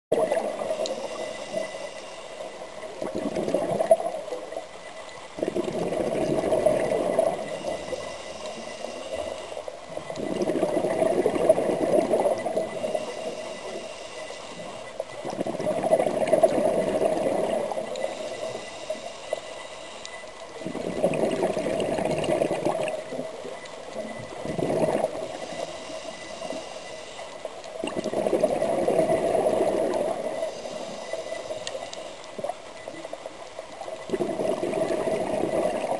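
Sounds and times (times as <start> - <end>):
exhaled bubbles gurgling underwater: 0.1 - 35.9
regulator hiss on inhale: 0.5 - 4.6, 5.5 - 35.9.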